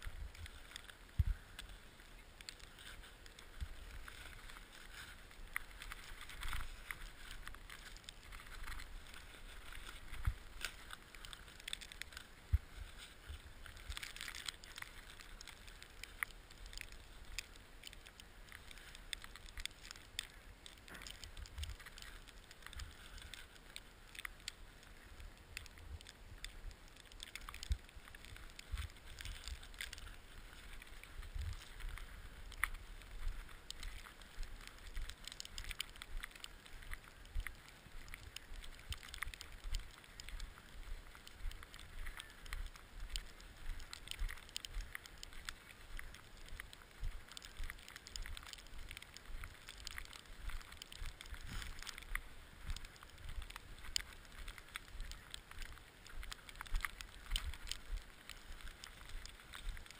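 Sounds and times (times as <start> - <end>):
skis scraping over snow: 0.0 - 59.9.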